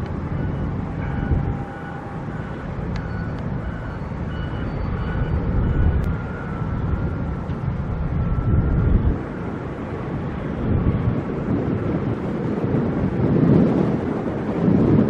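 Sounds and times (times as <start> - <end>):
distant construction machinery: 0.0 - 15.0
wind buffeting microphone: 0.0 - 15.0.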